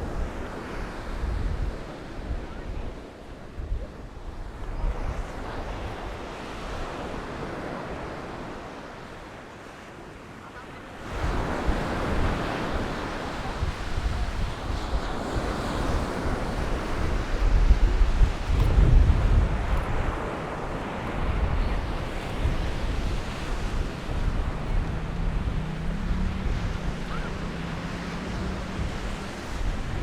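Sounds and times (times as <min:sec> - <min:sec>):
wind buffeting microphone: 0:00.0 - 0:09.2, 0:11.0 - 0:30.0
waves washing onto sand: 0:00.0 - 0:30.0.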